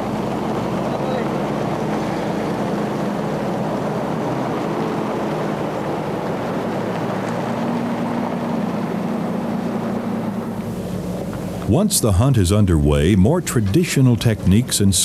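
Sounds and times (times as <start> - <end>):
tyres on gravel: 0.0 - 15.0
vehicle engine drone: 0.0 - 15.0.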